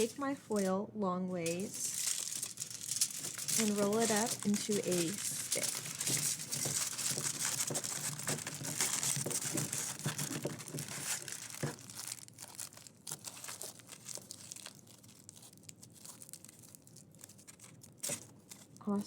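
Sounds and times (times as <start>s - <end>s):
aluminium foil crinkling: 0.0s - 19.0s.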